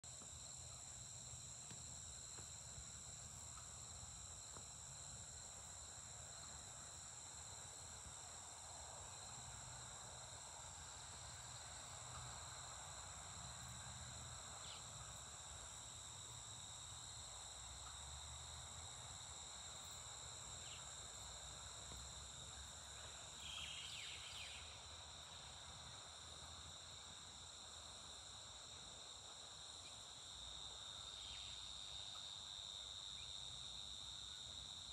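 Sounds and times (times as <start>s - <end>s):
insects chorus: 0.1s - 34.9s.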